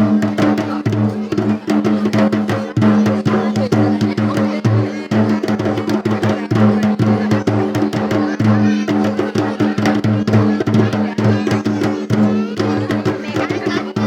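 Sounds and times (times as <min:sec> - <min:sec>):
quick drum beat: 0:00.0 - 0:14.0.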